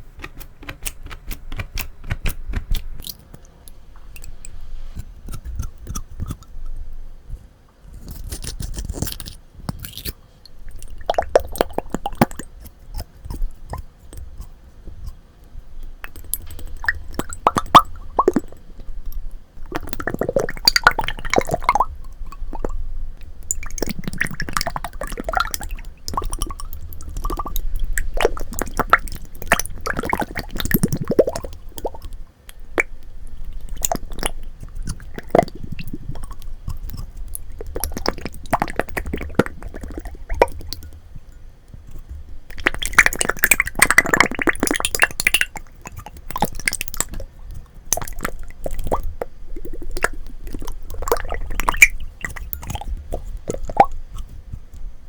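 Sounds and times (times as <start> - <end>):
slime squishing: 0.0 - 7.0, 7.9 - 15.2, 15.8 - 55.0.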